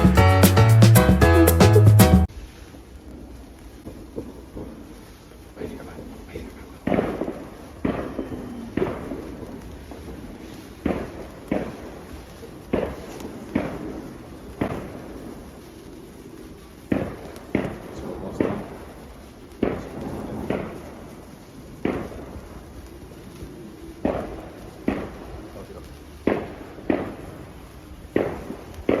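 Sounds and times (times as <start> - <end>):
fireworks bangs: 2.2 - 29.0.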